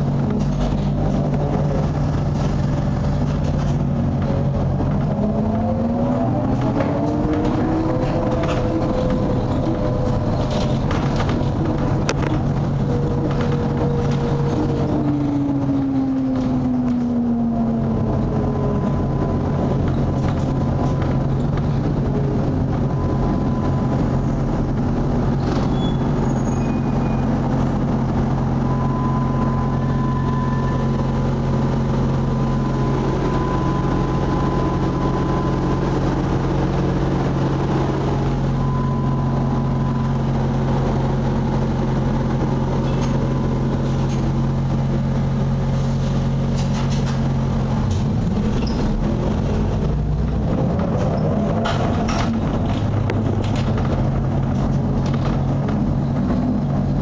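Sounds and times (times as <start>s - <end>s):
trolleybus electric hum and rumble: 0.0s - 57.0s.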